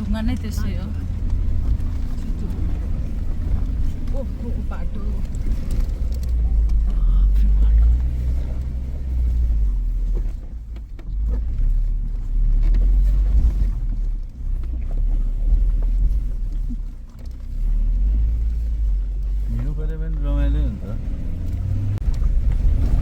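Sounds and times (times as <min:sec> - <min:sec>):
vehicle rumbling over rocks: 0:00.0 - 0:23.0.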